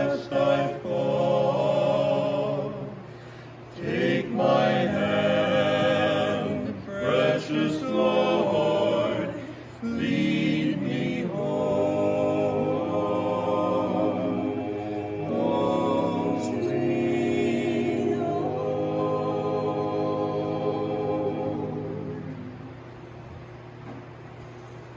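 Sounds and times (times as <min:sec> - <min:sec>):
vocal quartet singing a cappella: 0:00.0 - 0:23.0.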